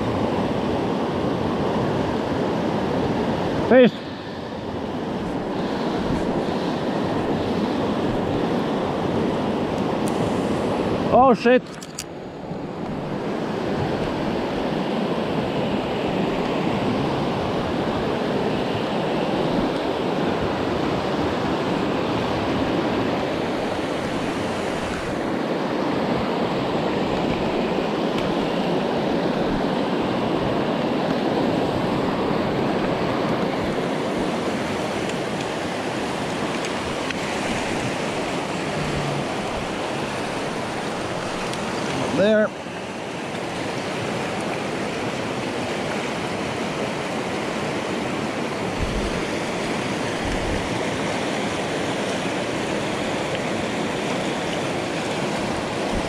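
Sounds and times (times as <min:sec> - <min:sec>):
river rapids rushing: 0:00.0 - 0:11.6, 0:12.2 - 0:56.0.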